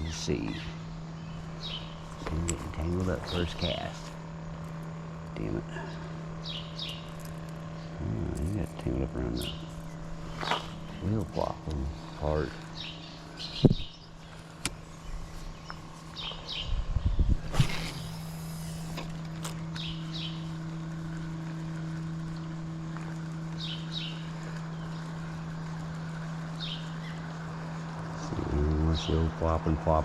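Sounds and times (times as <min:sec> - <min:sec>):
birds chirping: 0:00.0 - 0:30.0
steady low hum: 0:00.0 - 0:30.0.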